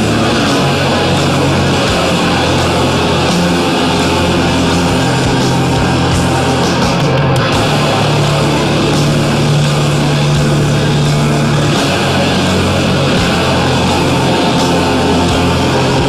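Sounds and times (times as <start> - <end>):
heavy metal guitar music: 0.0 - 16.0.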